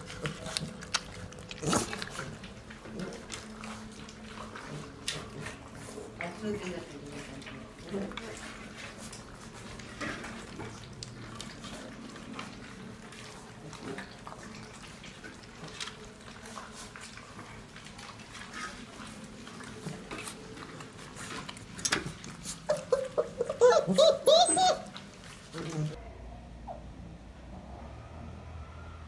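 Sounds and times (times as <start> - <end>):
puppies lapping and chewing food: 0.0 - 26.0.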